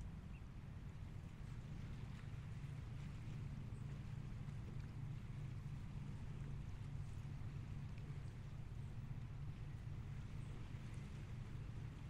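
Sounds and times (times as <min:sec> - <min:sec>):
water: 0:00.0 - 0:12.0.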